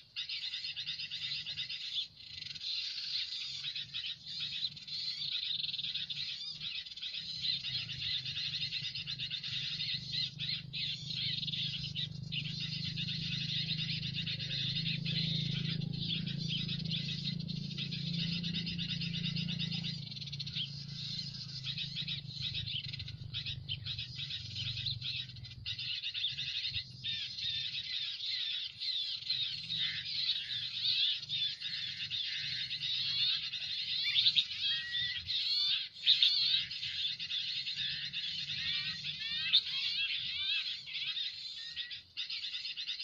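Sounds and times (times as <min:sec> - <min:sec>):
small birds twittering and chirping: 0:00.0 - 0:43.0.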